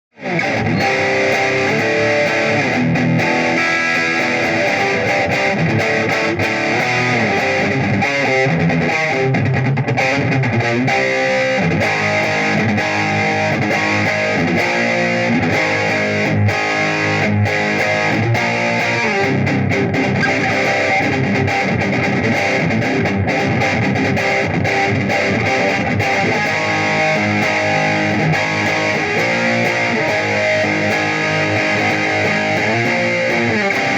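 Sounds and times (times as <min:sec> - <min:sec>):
distorted electric guitar: 0:00.1 - 0:33.9.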